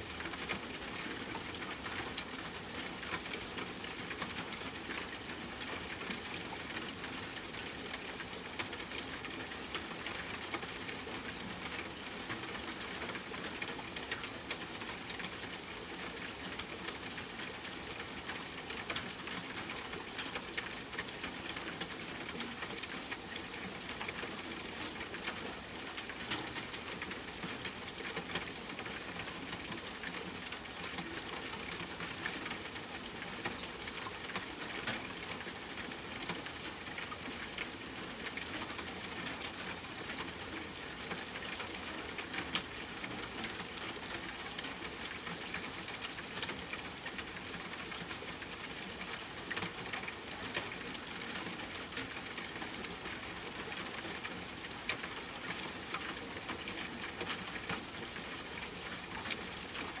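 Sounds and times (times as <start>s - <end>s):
steady rain hiss: 0.0s - 60.0s.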